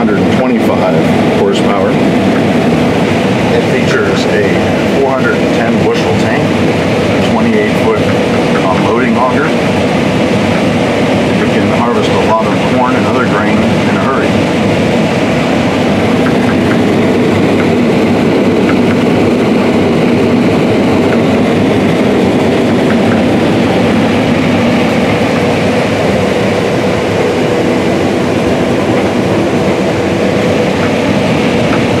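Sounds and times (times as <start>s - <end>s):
combine harvester drone: 0.0s - 32.0s.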